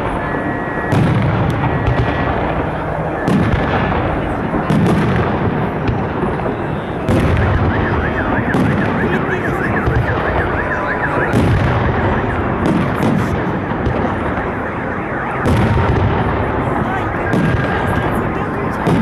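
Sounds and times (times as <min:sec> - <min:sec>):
car alarm wailing: 0:00.0 - 0:19.0
fireworks bangs: 0:00.0 - 0:19.0.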